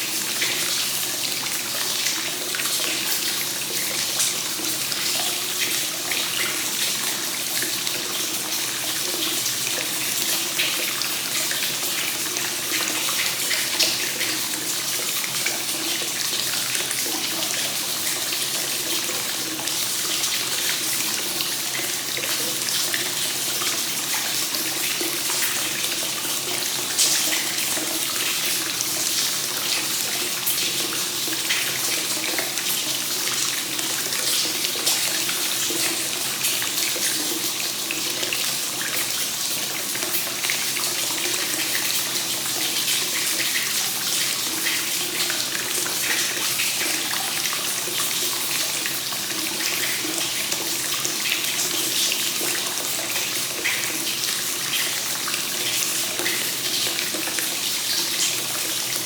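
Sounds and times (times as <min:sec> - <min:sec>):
water pouring into bath: 0:00.0 - 0:59.0.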